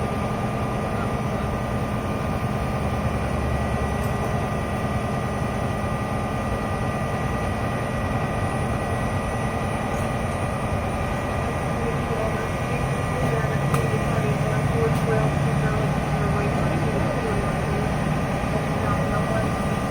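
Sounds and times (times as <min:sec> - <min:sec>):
diesel engine idling: 0:00.0 - 0:19.9.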